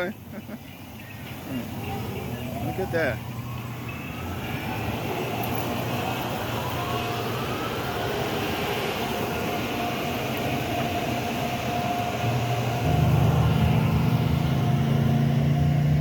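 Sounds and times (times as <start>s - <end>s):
car engine and road noise: 0.0s - 16.0s
faint rising whine: 2.6s - 16.0s.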